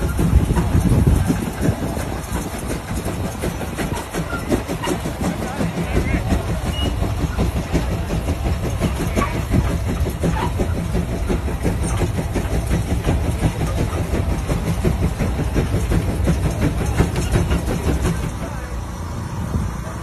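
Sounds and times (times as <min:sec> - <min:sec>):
steam traction engine exhaust beat: 0:00.0 - 0:20.0.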